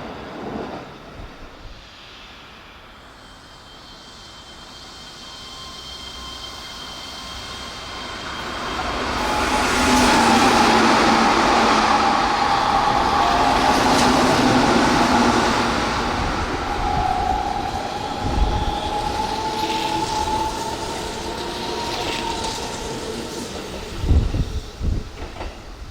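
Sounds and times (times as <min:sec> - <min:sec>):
electric train running past: 0:00.0 - 0:25.9.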